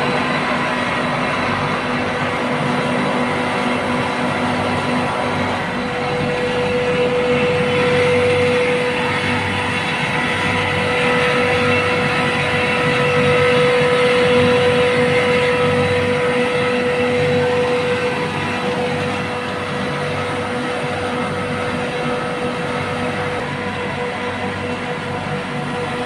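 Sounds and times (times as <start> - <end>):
chiller compressor running: 0.0 - 26.0
constant hum: 0.0 - 26.0.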